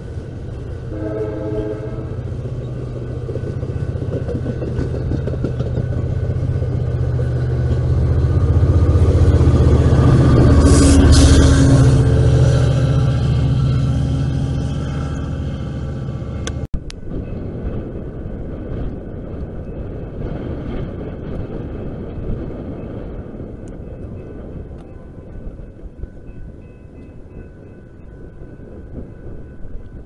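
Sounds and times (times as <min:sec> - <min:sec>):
distant train rumbling: 0:00.0 - 0:30.0.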